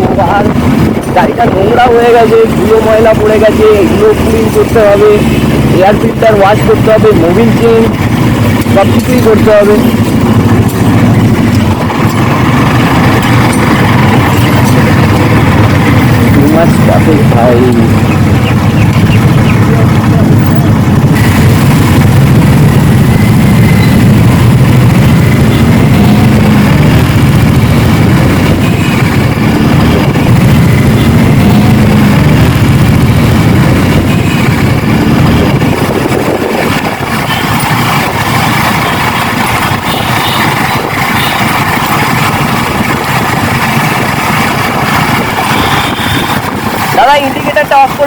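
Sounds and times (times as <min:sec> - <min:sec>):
motorcycle engine: 0:00.0 - 0:48.0
wind rush on microphone: 0:00.0 - 0:48.0.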